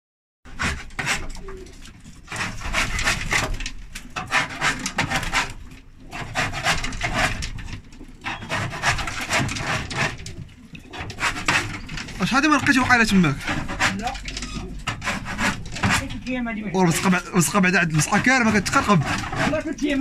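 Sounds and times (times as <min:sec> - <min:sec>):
hand scraper rasping on wood: 0:00.5 - 0:20.0.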